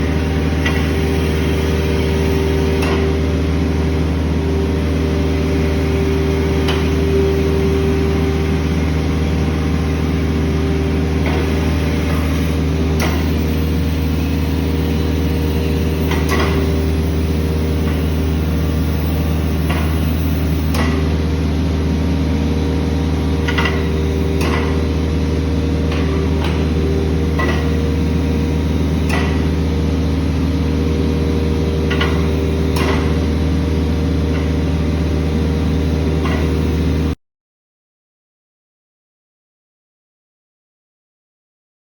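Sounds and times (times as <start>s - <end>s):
concrete cutting machine drone: 0.0s - 37.2s.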